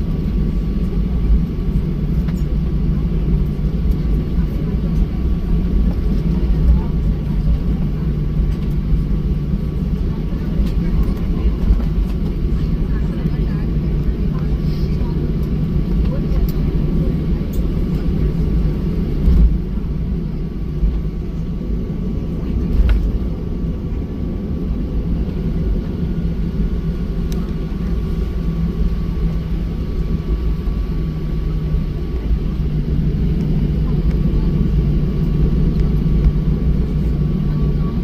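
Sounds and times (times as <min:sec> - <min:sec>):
aircraft cabin rumble: 0:00.0 - 0:38.0.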